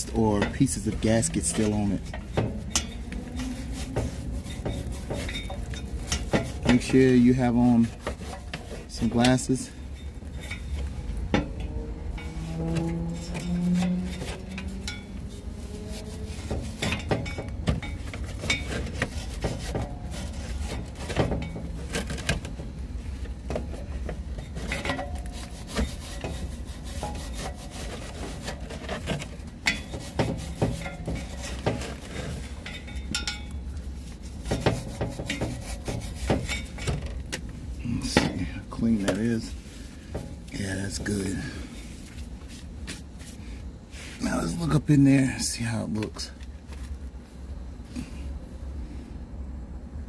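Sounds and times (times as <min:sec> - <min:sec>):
wire brush scraping metal: 0:00.0 - 0:44.7.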